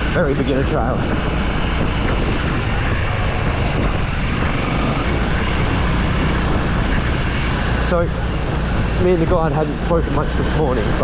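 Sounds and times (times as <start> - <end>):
dirt bike engine running: 0.0 - 11.0
wind noise on microphone: 0.0 - 11.0.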